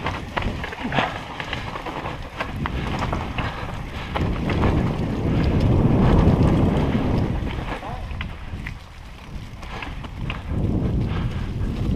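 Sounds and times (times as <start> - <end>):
bike clicks and rattles: 0.0 - 11.9
bike tyre noise on dirt: 0.0 - 11.9
wind rushing over microphone: 0.0 - 11.9.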